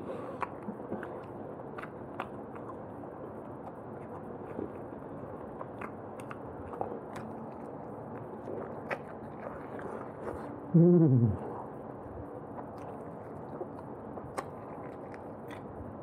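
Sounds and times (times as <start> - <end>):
chewing with wet clicks: 0.4 - 10.6, 12.3 - 16.0.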